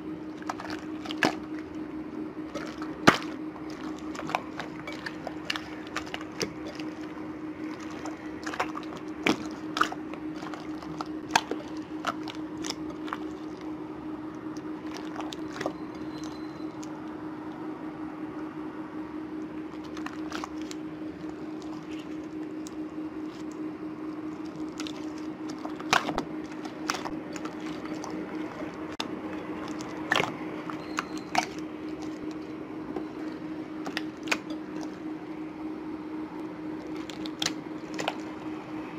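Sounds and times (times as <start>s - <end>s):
slime squelching: 0.0s - 17.6s, 19.4s - 38.9s
low hum: 0.0s - 38.9s.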